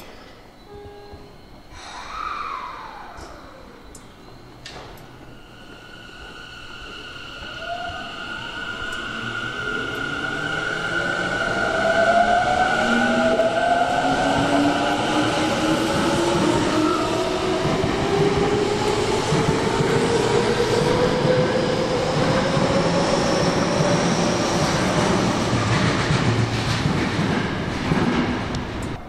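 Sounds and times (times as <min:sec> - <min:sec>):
train wheels rumbling on rails: 0:00.8 - 0:29.0.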